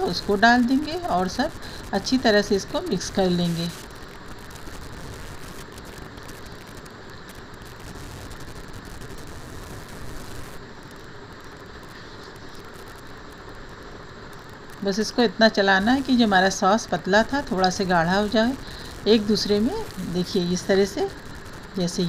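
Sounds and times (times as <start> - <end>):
gas stove hissing: 0.0 - 22.0.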